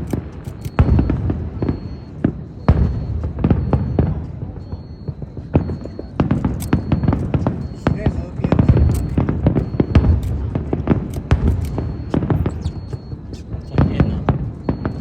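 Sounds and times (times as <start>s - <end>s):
constant low rumble: 0.0s - 15.0s
fireworks bangs: 0.0s - 15.0s.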